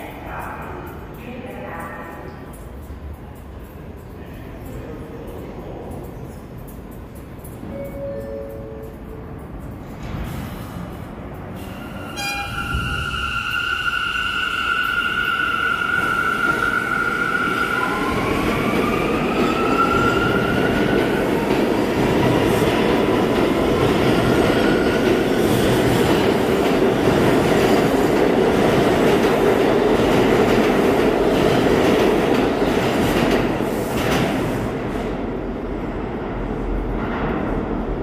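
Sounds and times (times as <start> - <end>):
subway train wheels rumbling: 0.0 - 38.0.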